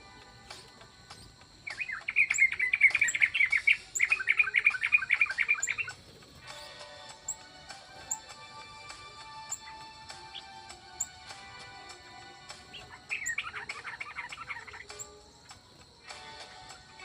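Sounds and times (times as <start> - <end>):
small songbird twittering: 0.4 - 16.0.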